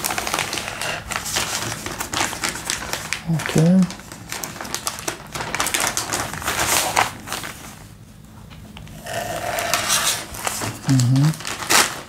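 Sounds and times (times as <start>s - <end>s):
plastic mailer crinkling: 0.0s - 7.9s, 9.1s - 12.0s.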